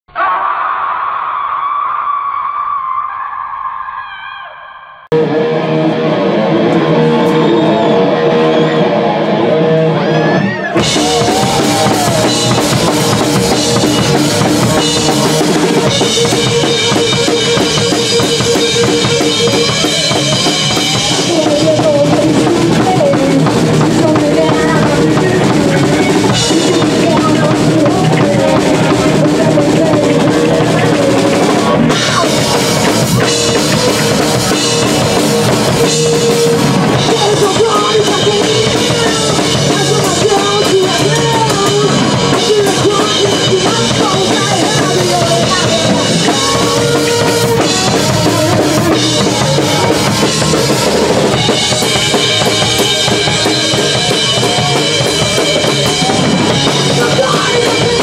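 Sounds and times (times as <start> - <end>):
punk rock band playing: 5.1 - 58.0.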